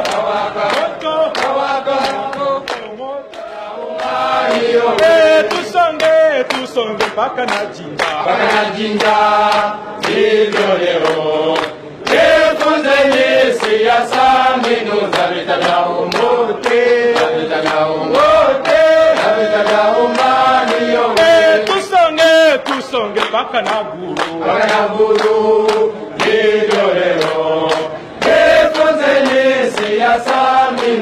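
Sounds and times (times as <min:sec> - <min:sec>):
men chanting and singing together: 0:00.0 - 0:31.0.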